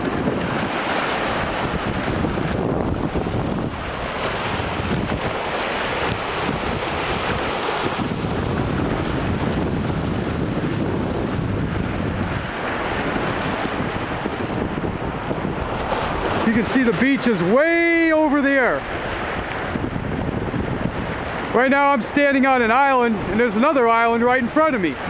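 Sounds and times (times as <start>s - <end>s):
waves breaking on stony shore: 0.0s - 25.0s
wind buffeting microphone: 0.0s - 25.0s.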